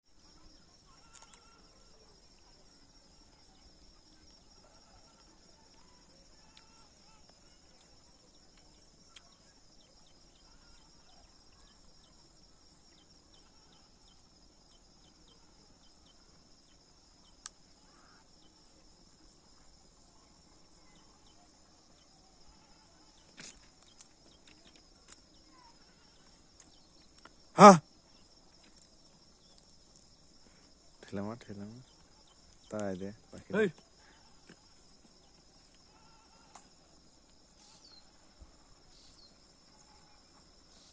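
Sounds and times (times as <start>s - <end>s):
insect chorus trilling: 0.1s - 40.9s.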